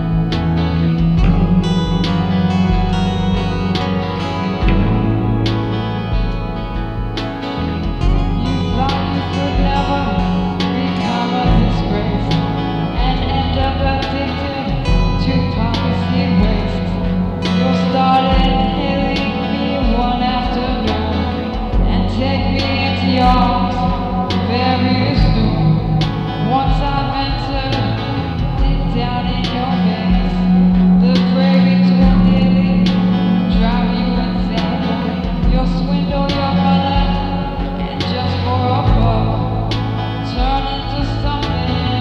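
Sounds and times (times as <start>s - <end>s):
rock band playing: 0.0s - 42.0s.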